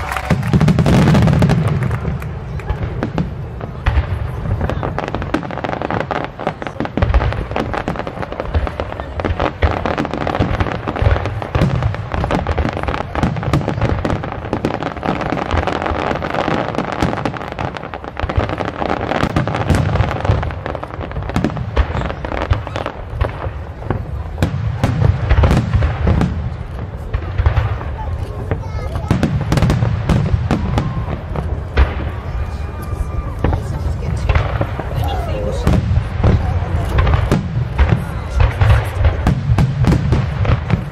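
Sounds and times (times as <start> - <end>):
fireworks deep booms: 0.0 - 40.9
fireworks sharp bangs: 0.0 - 40.9.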